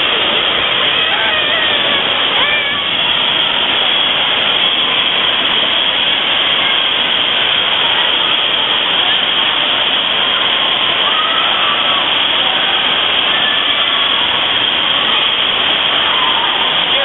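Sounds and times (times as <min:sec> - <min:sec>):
echoing crowd voices: 0:00.0 - 0:17.0
water rushing: 0:00.0 - 0:17.0.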